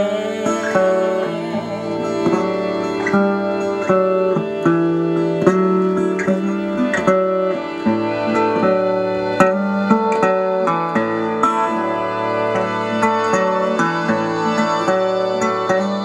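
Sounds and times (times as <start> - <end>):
plucked string instrumental music: 0.0 - 16.0.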